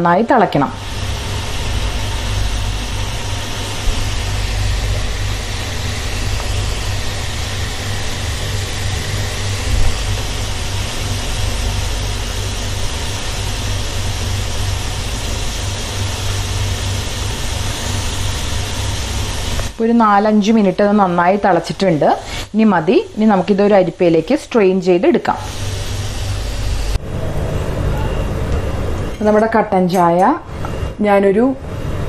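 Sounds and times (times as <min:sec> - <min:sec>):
gas burner rumble: 0:00.0 - 0:32.0
water boiling with bubbling hiss: 0:00.8 - 0:27.0.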